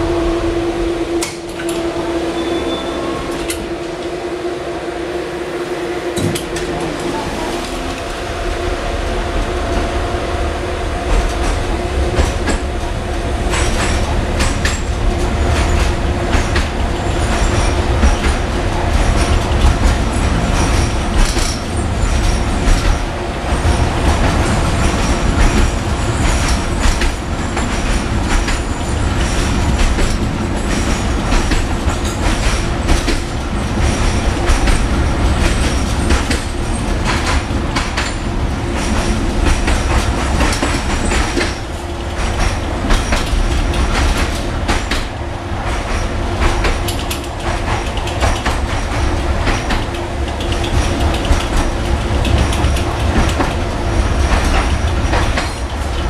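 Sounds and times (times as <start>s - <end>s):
tram rumble and hum: 0.0s - 56.0s
wheels clattering on rails: 6.1s - 56.0s.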